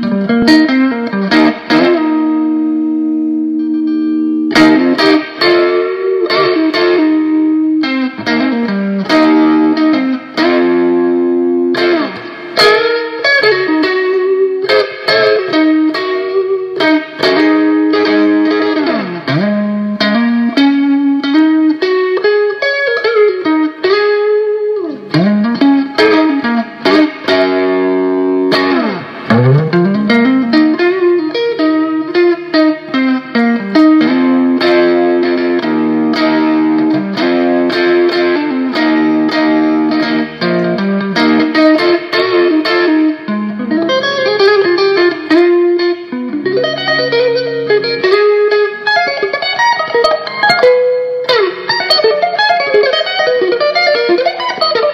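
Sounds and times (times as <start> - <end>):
electric guitar blues-rock lead: 0.0 - 54.9.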